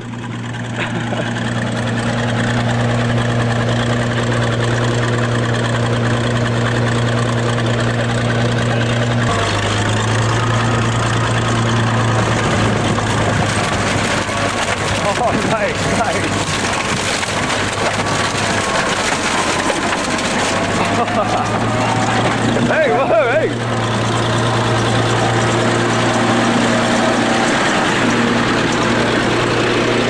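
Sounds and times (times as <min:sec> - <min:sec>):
bulldozer engine running: 0:00.0 - 0:30.0.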